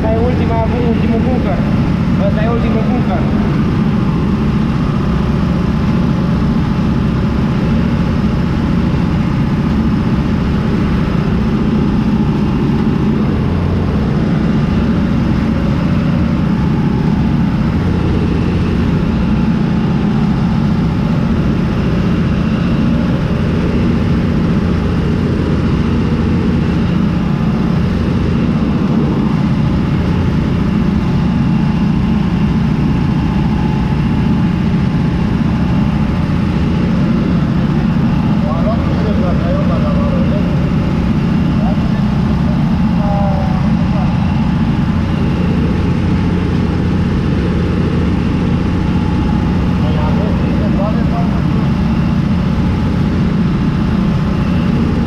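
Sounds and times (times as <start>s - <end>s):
corn picker working: 0.0s - 55.0s
tractor diesel engine running: 0.0s - 55.0s.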